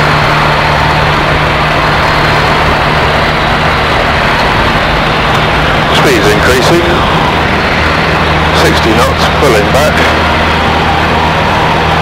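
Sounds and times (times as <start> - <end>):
aircraft engine and propeller drone: 0.0 - 12.0.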